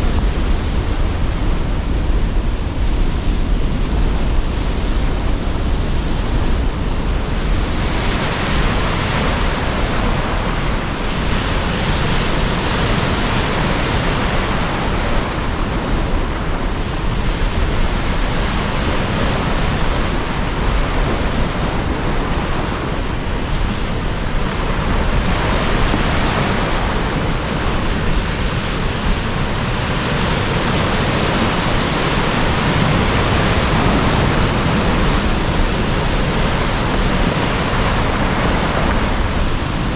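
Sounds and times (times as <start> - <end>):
strong wind: 0.0 - 39.9
waves breaking: 0.0 - 39.9.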